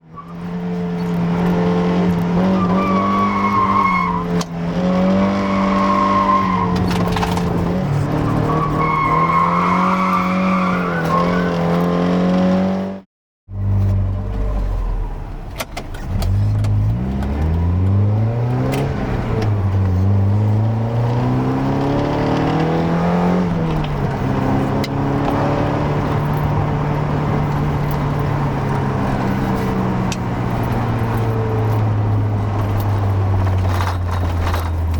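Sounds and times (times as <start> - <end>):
car engine revving: 0.0 - 15.0, 16.0 - 34.9.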